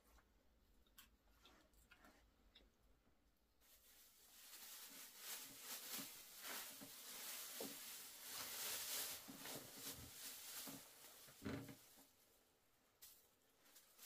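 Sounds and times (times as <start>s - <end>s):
faint rustling and crunching: 0.0s - 14.0s.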